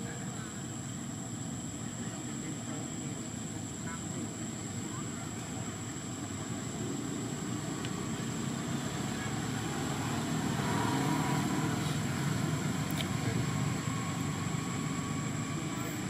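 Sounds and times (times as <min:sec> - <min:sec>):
high-pitched whine: 0:00.0 - 0:16.0
low rumbling background noise: 0:00.0 - 0:16.0.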